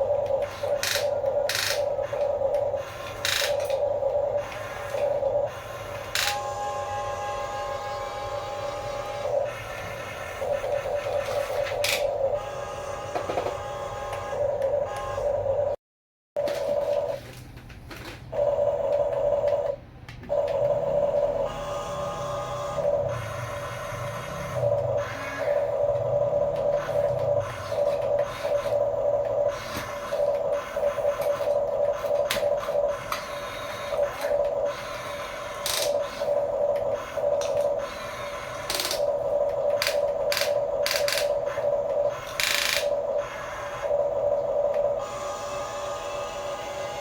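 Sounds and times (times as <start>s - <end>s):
toy electric motors whining: 0.0s - 15.6s, 18.0s - 47.0s.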